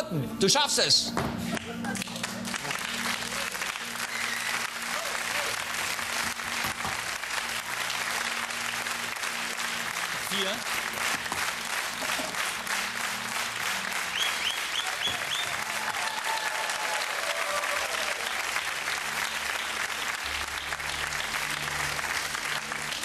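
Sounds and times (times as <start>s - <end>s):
audience applauding: 1.5s - 23.0s.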